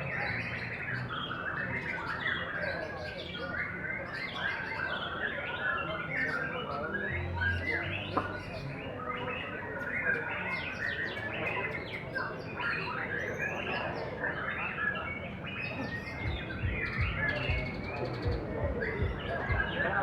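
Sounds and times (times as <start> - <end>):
birds singing whistles and chirps: 0.0 - 20.0.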